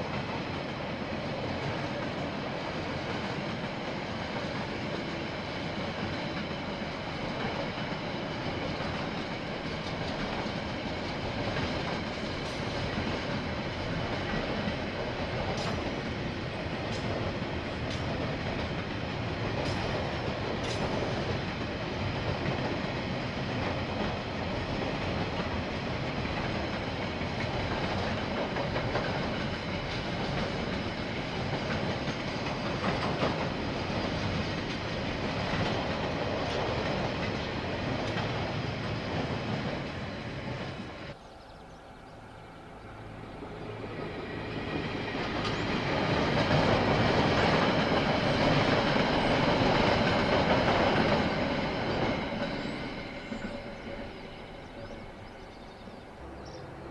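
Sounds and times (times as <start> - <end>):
train wheels clattering over rail joints: 1.3 - 40.9, 44.6 - 55.9.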